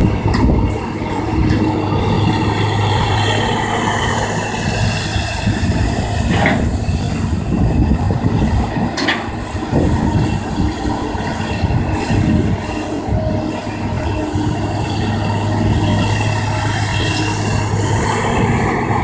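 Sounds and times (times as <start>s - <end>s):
excavator engine hum: 0.0s - 19.0s.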